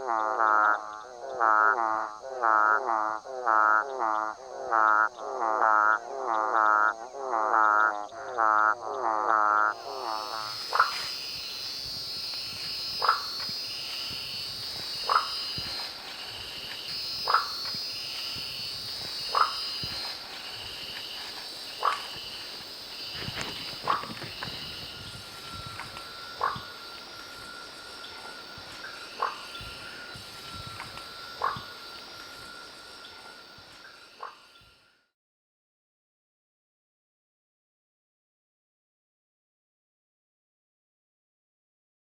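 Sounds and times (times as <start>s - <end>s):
frog calling sharp notes: 0.0s - 34.7s
high chorus of insects or frogs: 0.0s - 35.1s.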